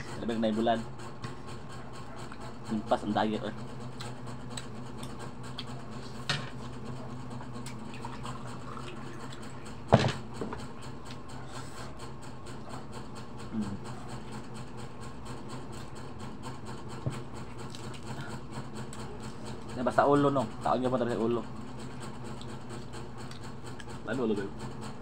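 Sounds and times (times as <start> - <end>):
eating at a table: 0.0 - 25.0
steady low hum: 0.0 - 25.0.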